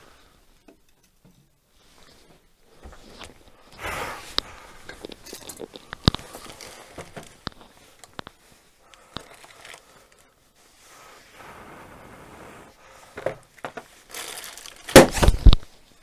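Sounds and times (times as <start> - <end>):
crackling and rustling: 0.0 - 16.0.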